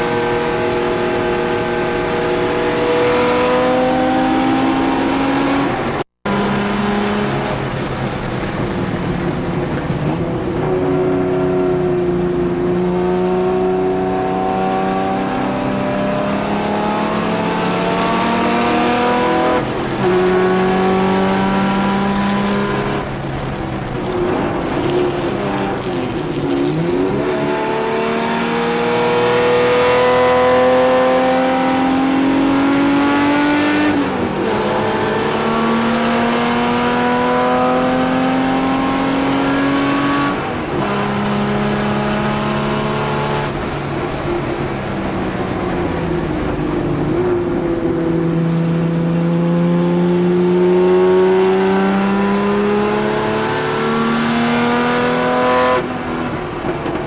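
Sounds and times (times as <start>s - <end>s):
racing car engine at full throttle: 0.0s - 57.0s.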